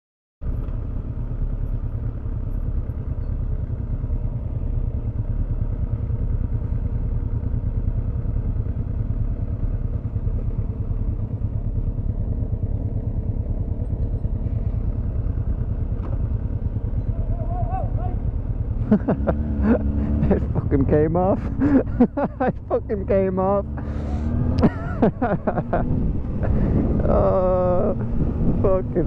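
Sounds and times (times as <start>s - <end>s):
motorcycle engine running: 0.4s - 29.0s
low rush of riding noise: 0.5s - 29.0s.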